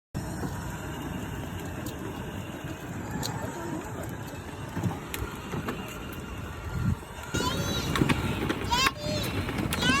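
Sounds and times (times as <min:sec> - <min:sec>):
toy car motor whirring: 0:00.2 - 0:10.0.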